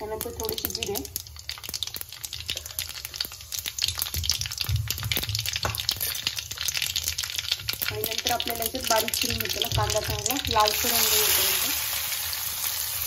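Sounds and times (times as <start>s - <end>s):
seeds popping in hot oil: 0.0s - 13.0s.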